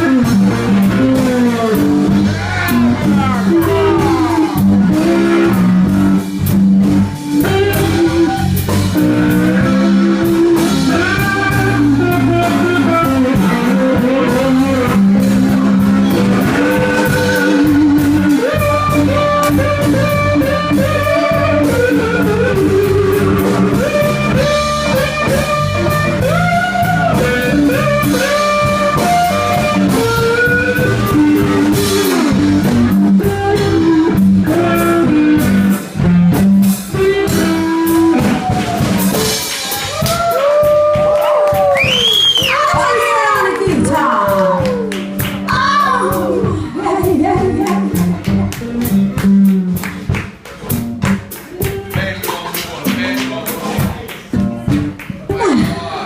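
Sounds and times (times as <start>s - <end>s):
bass guitar: 0.0s - 56.0s
blues guitar lead with bent notes: 0.0s - 56.0s
drum kit: 0.0s - 56.0s.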